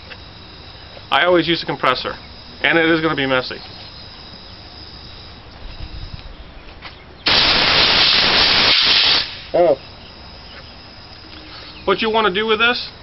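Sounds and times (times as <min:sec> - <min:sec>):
compressed air blow gun hiss: 0:00.0 - 0:06.3, 0:07.2 - 0:13.0.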